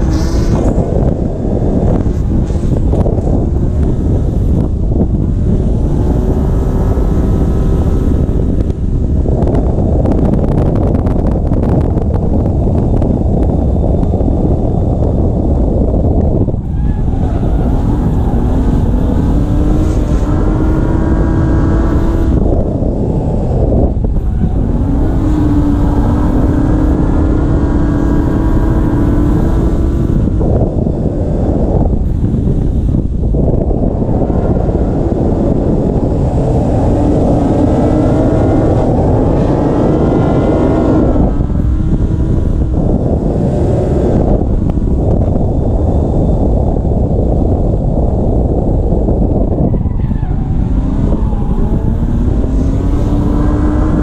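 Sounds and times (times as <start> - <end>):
car engine revving: 0.0 - 46.6, 49.2 - 54.0
wind rumble on microphone: 0.0 - 54.0.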